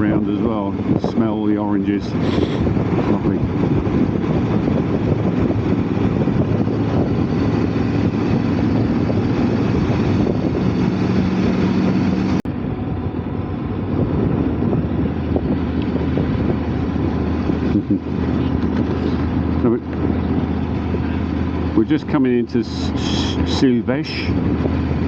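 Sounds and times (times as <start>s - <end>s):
motorcycle engine cruising: 0.0s - 25.0s
wind rush: 0.0s - 25.0s.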